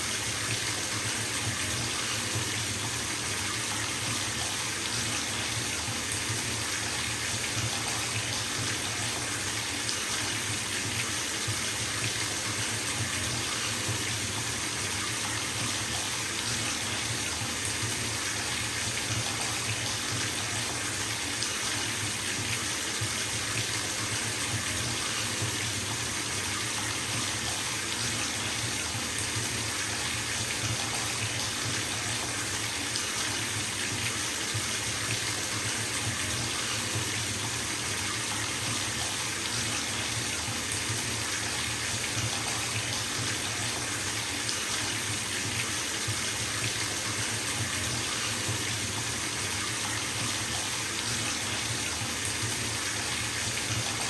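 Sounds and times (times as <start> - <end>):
water running into bathtub: 0.0 - 54.0.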